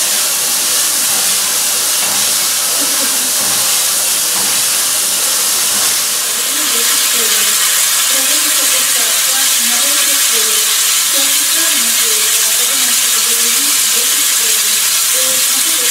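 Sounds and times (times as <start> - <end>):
steam locomotive venting steam: 0.0 - 15.9.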